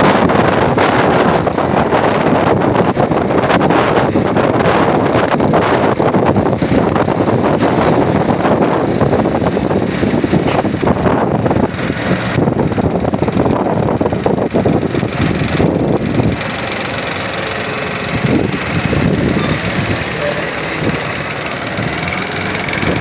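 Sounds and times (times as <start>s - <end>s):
bus diesel engine rumbling: 0.0s - 23.0s.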